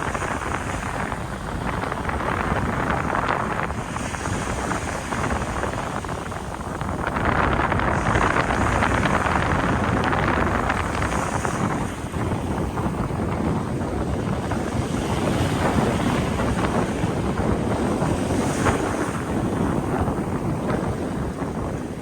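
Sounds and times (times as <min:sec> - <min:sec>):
sea waves washing onto shore: 0:00.0 - 0:22.0
wind buffeting microphone: 0:00.0 - 0:22.0.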